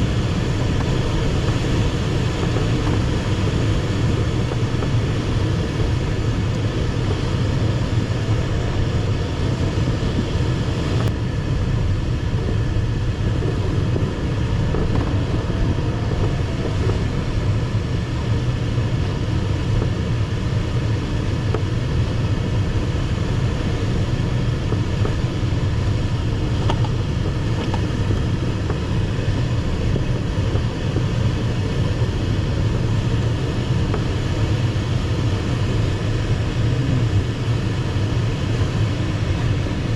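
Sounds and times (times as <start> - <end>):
rushing airflow rumble: 0.0 - 39.9.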